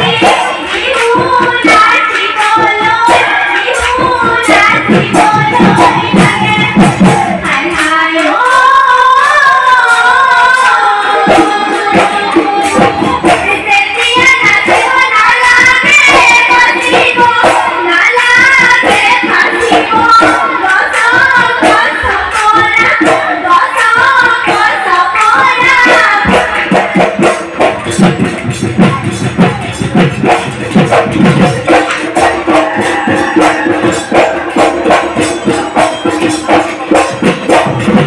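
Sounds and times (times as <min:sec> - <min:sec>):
dhol drums fast rhythm: 0:00.0 - 0:08.3, 0:10.3 - 0:38.0
girls singing over sound system: 0:00.0 - 0:38.0.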